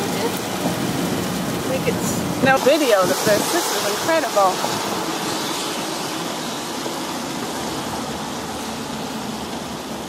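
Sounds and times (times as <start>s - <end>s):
rushing wind: 0.0s - 10.0s.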